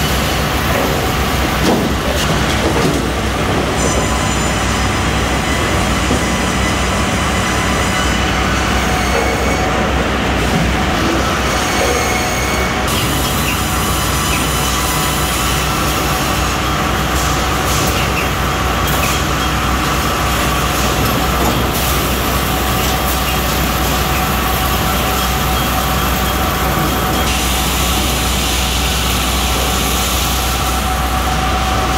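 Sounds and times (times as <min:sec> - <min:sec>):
conveyor machinery running: 0:00.0 - 0:31.9.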